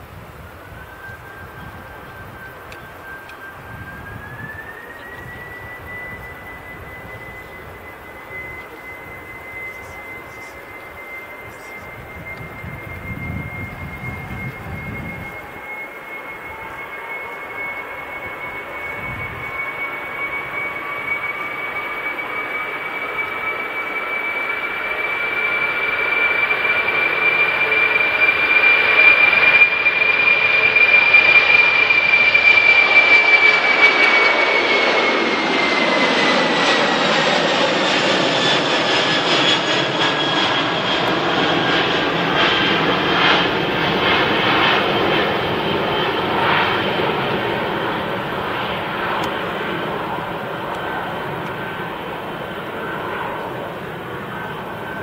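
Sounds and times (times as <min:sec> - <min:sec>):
jet engines whining: 0:00.0 - 0:55.0
jet roar rumbling: 0:00.0 - 0:55.0.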